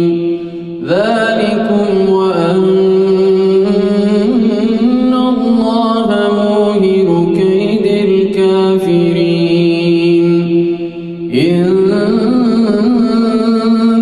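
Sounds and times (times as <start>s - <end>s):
man chanting recitation: 0.0s - 14.0s.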